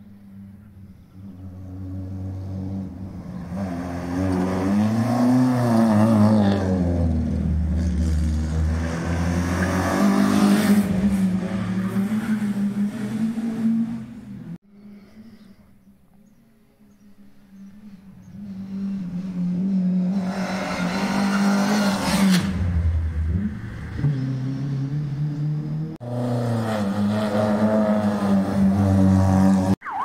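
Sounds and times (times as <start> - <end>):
rally car engine revving: 1.2 - 14.5, 18.3 - 29.8.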